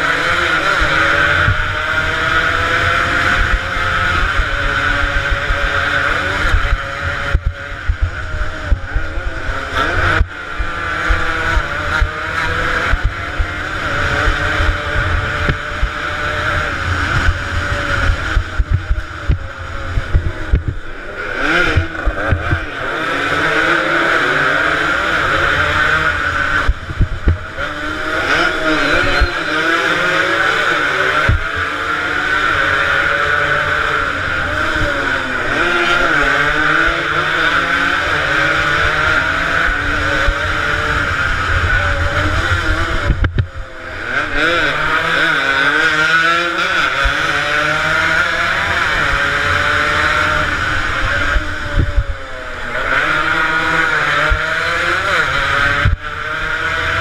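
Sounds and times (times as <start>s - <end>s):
two-stroke motorcycles revving: 0.0s - 57.0s.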